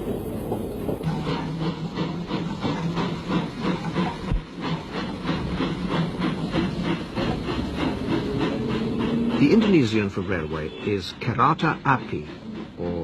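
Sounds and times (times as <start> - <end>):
steam hissing: 0.0 - 13.0
steam locomotive exhaust beats: 0.0 - 13.0.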